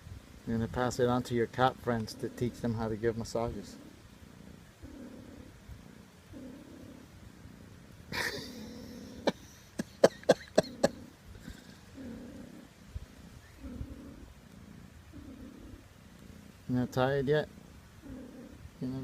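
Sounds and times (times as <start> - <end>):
cat purring: 0.4 - 19.0.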